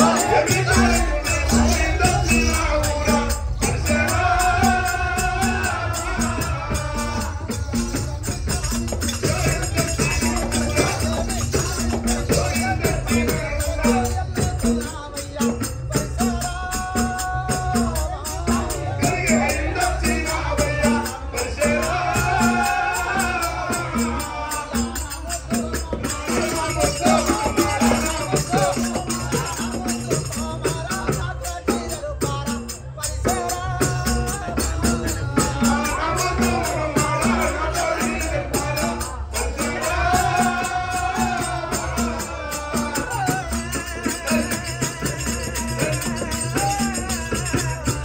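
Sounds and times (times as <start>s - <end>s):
hand drum beat: 0.0s - 48.0s
jingling rattle percussion: 0.0s - 48.0s
person singing: 0.0s - 48.0s.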